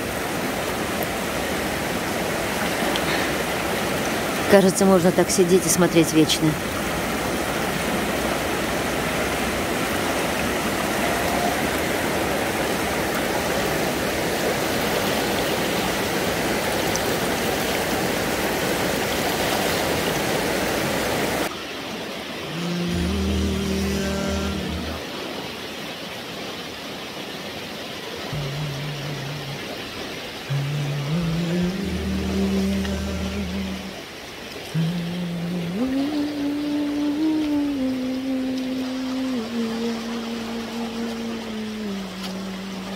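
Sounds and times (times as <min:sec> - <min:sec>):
river rushing over rocks: 0:00.0 - 0:42.9.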